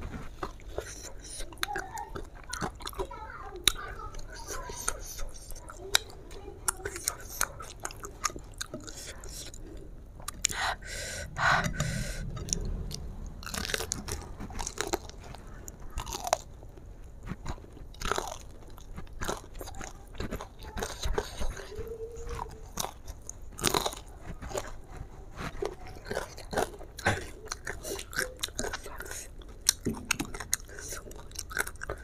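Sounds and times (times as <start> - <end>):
crunchy chewing: 0.0 - 32.0.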